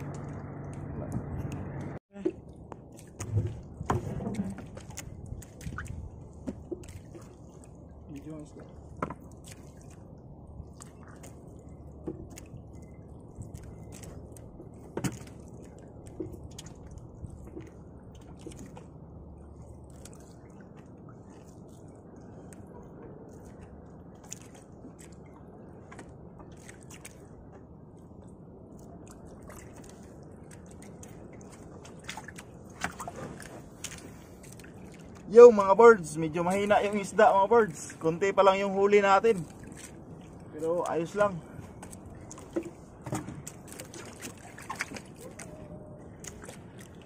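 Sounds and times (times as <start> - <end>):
water dripping and splashing: 0.0 - 47.0
wind and choppy sea: 0.0 - 47.0.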